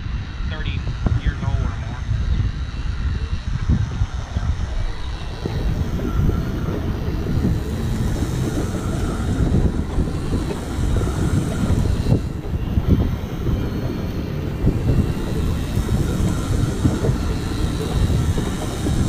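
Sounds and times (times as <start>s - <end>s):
electric motor whine: 0.0s - 19.0s
wind rumble on microphone: 0.0s - 19.0s.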